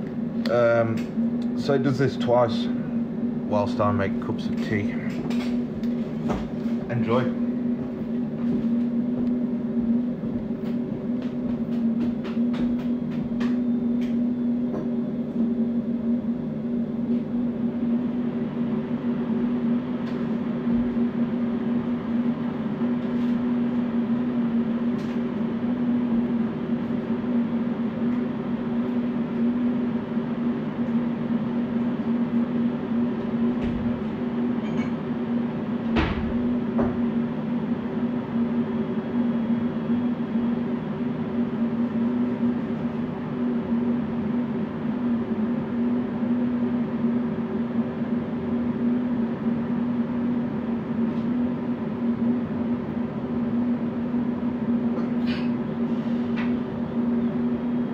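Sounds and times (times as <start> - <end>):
laser machine humming: 0.0 - 57.9.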